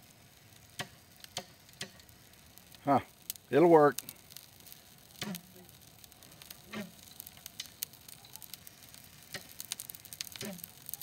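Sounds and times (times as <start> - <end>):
brush pile crackling and popping: 0.0 - 11.0.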